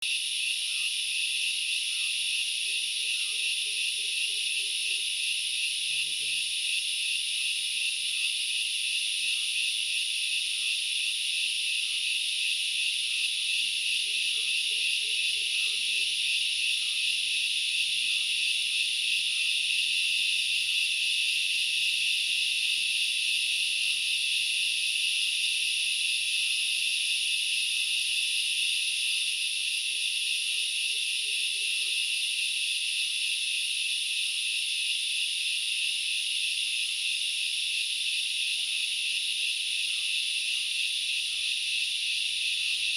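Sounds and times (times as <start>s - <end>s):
forest insects shrilling: 0.0s - 42.9s.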